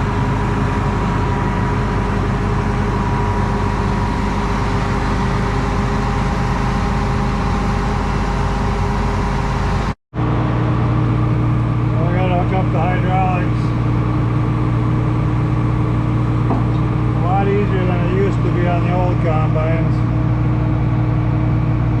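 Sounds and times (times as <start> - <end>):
engine low hum: 0.0 - 22.0
engine running steadily: 0.0 - 22.0.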